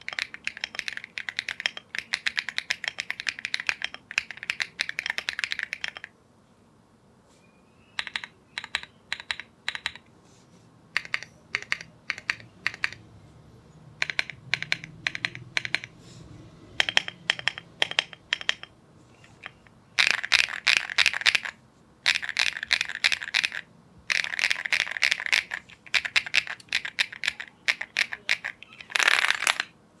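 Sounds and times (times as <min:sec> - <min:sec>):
mechanical keyboard typing: 0:00.0 - 0:06.1, 0:08.0 - 0:10.1, 0:11.0 - 0:13.0, 0:14.0 - 0:16.0, 0:16.7 - 0:18.7, 0:19.3 - 0:29.7.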